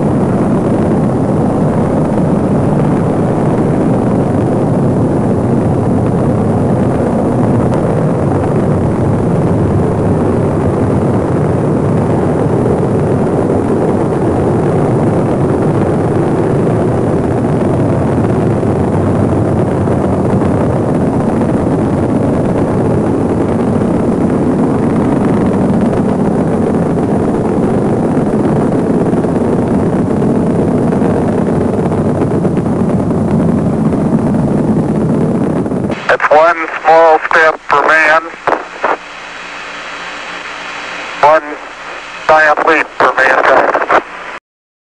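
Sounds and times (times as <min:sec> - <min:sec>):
rocket engines roaring: 0:00.0 - 0:44.4.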